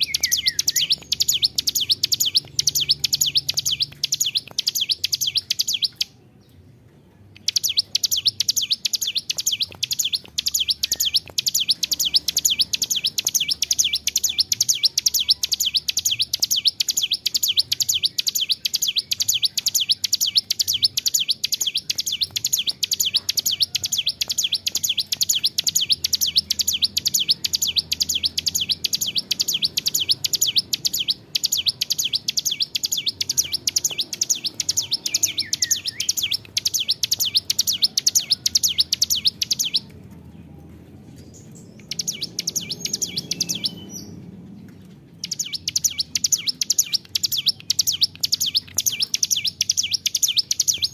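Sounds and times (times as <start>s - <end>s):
bird singing rapid chirping notes: 0.0s - 40.4s, 41.1s - 50.9s.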